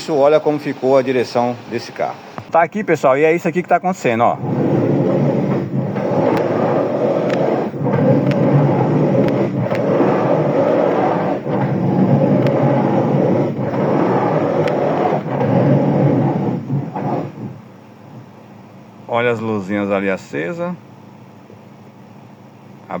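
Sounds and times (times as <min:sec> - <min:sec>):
power steering whine: 0:00.0 - 0:02.6, 0:04.0 - 0:23.0.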